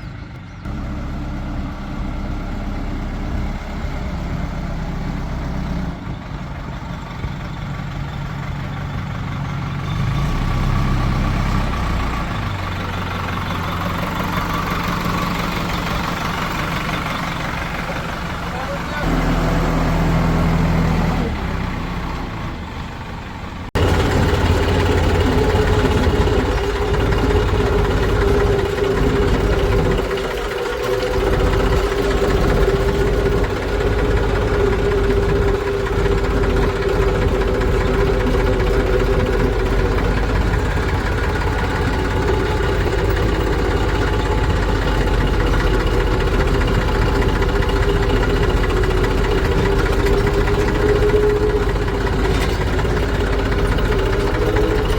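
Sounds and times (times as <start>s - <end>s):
heavy diesel engine droning: 0.0s - 54.9s.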